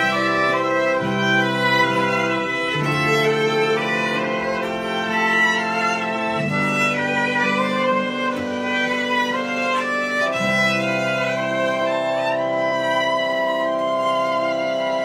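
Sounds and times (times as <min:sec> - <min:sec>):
bowed violins: 0:00.0 - 0:15.0
electric keyboard: 0:00.0 - 0:15.0.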